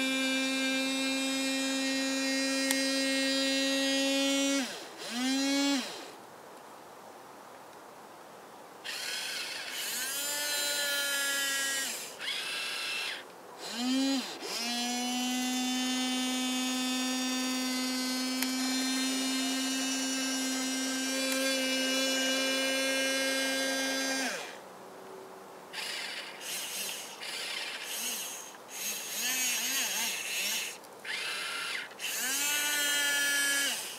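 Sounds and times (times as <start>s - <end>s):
small electric gear motors whining: 0.0s - 6.2s, 8.8s - 24.6s, 25.8s - 33.9s.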